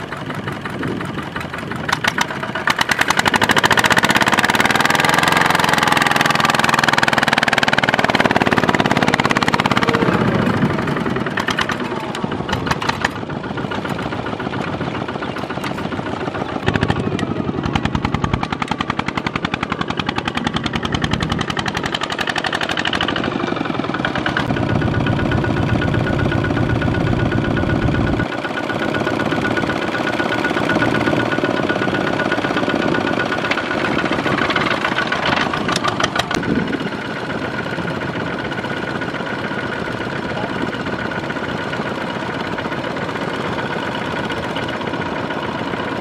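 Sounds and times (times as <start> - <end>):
diesel tractor engine under load: 0.0 - 46.0.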